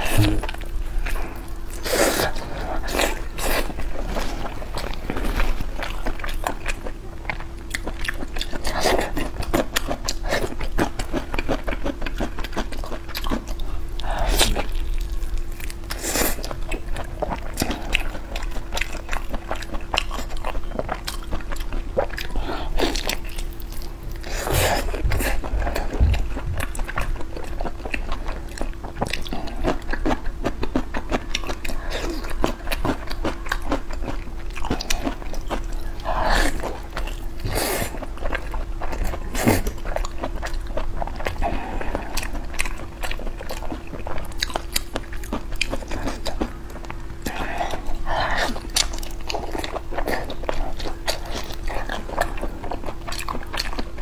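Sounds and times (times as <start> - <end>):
chewing meat on the bone: 0.0 - 54.0
faint steady hum: 0.0 - 54.0.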